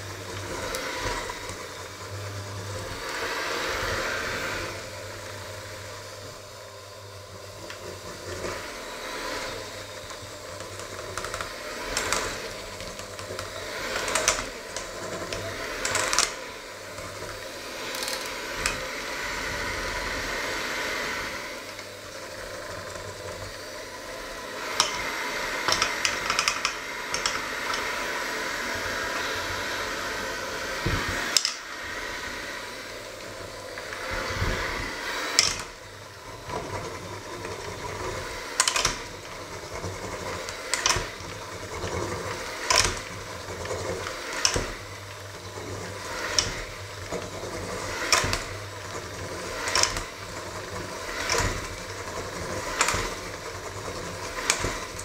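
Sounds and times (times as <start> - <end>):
electric mixer running: 0.0 - 55.0.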